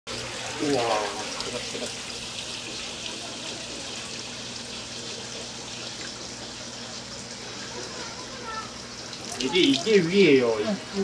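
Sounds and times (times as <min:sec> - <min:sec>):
water running: 0:00.1 - 0:11.0.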